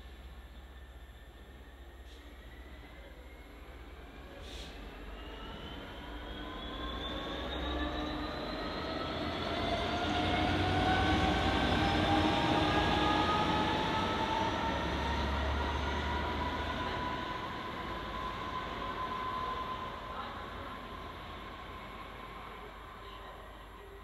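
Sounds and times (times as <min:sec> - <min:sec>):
train passing with whining tones: 0:00.0 - 0:24.0.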